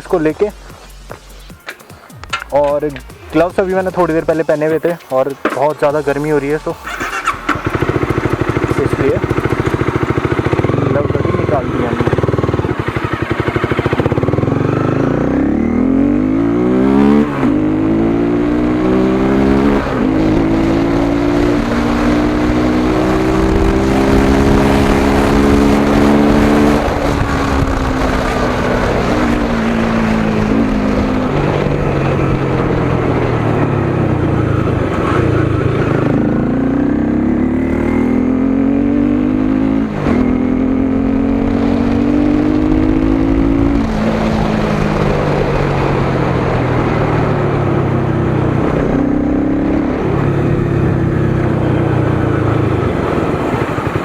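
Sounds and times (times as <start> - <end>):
motorcycle engine revving through gears: 1.6 - 54.0.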